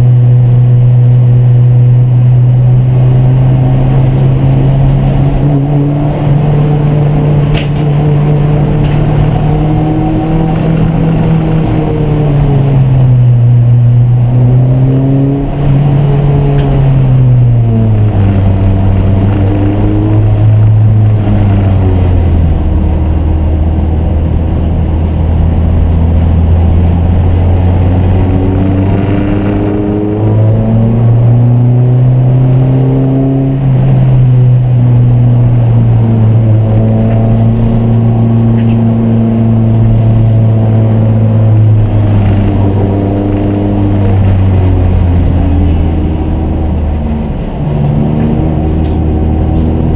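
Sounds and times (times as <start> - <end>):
race car engine: 0.0 - 49.9.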